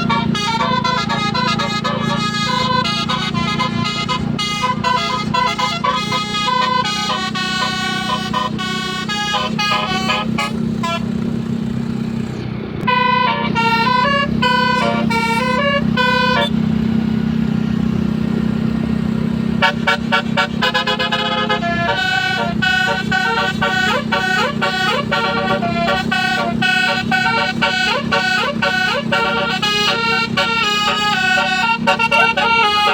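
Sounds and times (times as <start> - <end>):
musical air horns: 0.0 - 11.8, 12.8 - 16.7, 19.5 - 32.9.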